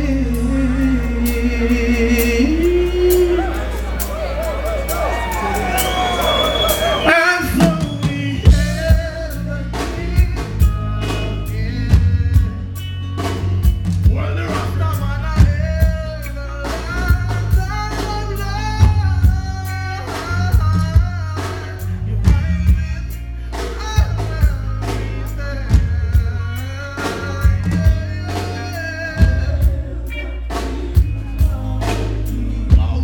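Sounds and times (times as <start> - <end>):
heavy bass line: 0.0 - 33.0
person singing: 0.0 - 33.0
reggae band playing: 0.0 - 33.0.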